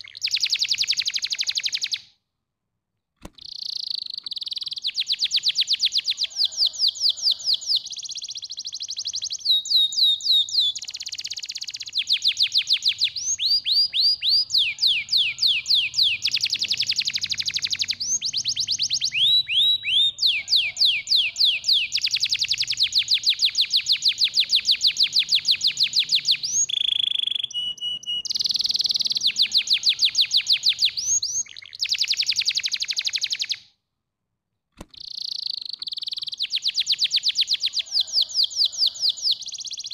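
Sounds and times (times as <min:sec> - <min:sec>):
canary singing trills: 0:00.0 - 0:02.0, 0:03.4 - 0:33.6, 0:34.9 - 0:39.9.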